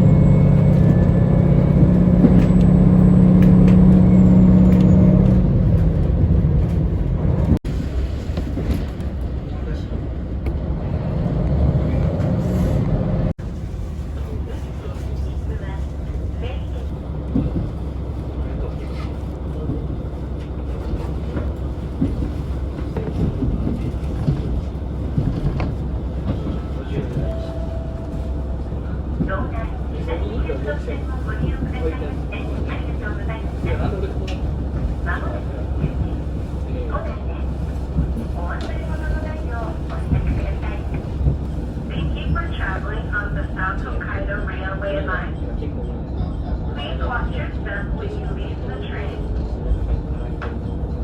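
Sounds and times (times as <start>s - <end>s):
railcar diesel engine droning: 0.0s - 51.0s.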